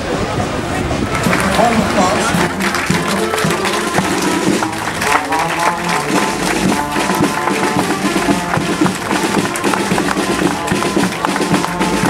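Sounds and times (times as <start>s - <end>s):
sustained band melody: 0.3s - 12.0s
marching band drums beating: 0.8s - 12.0s.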